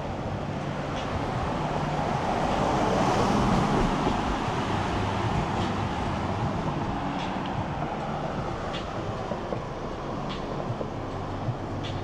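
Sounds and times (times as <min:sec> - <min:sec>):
vehicle passing slowly: 0:00.0 - 0:12.0.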